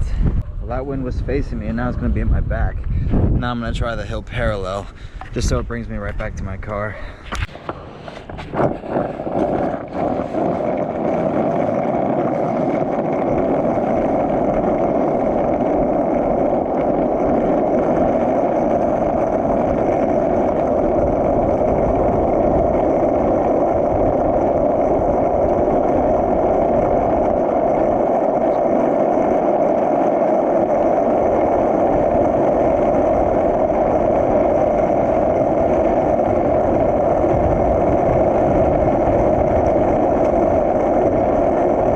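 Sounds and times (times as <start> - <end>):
skateboard wheels rolling on pavement: 0.0 - 41.9.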